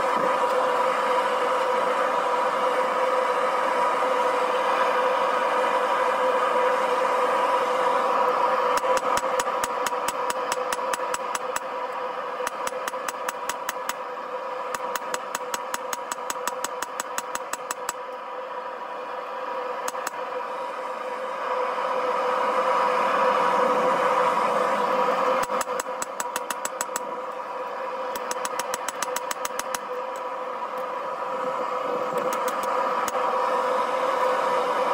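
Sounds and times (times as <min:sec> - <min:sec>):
forge burner roaring: 0:00.0 - 0:34.9.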